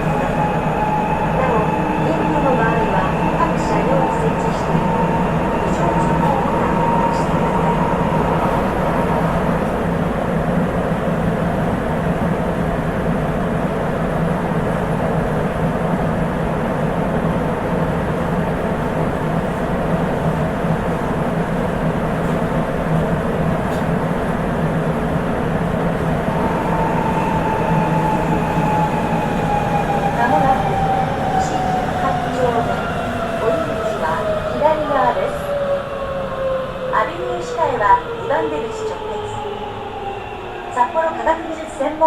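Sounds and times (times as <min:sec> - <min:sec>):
subway train rumble: 0:00.0 - 0:42.0.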